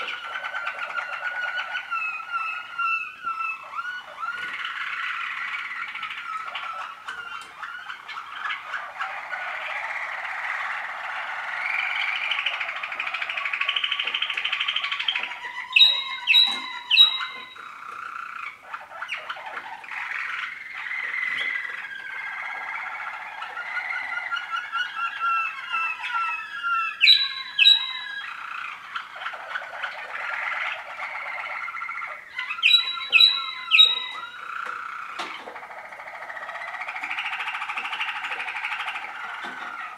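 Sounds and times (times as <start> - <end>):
canaries warbling and trilling: 0.0 - 39.9
loud sharp bird notes: 0.0 - 39.9.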